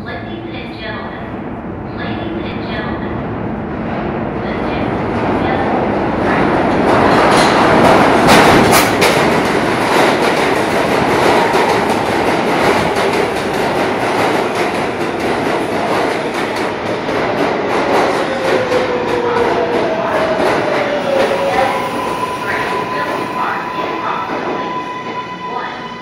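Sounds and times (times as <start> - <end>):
train wheels rumbling on rails: 1.2 - 26.0.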